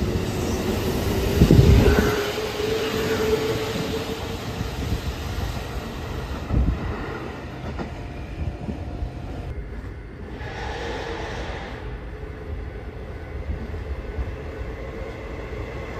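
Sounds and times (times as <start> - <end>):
electric train whine: 0.0 - 15.9
train rumble: 0.0 - 15.9.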